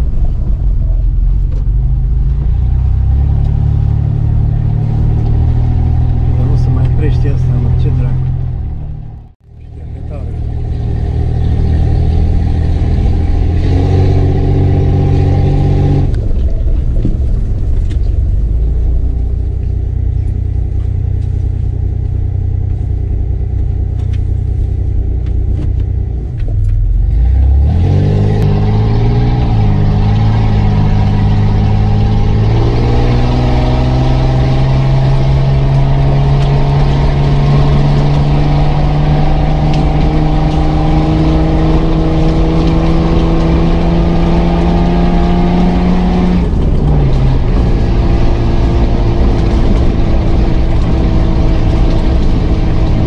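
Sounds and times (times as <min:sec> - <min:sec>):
car engine from inside cabin: 0:00.0 - 0:53.0.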